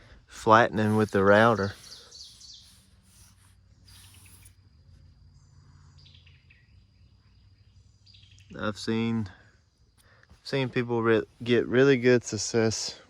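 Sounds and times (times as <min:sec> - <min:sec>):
insect buzz: 0:00.0 - 0:11.6
soft bird chirps: 0:00.0 - 0:11.6.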